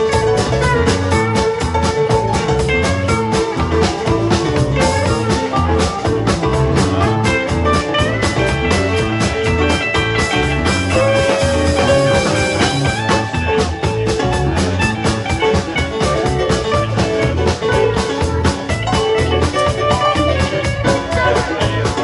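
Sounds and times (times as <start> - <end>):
rock band playing instrumental: 0.0 - 22.0.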